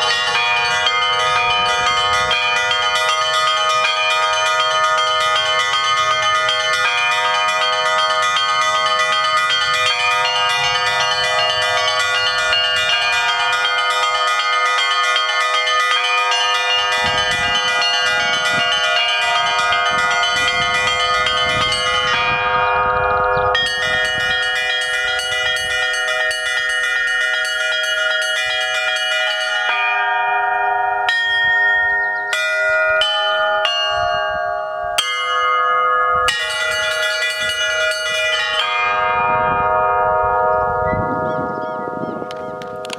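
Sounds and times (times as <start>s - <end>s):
deep bells ringing: 0.0s - 42.9s
small high bells striking: 0.0s - 42.9s.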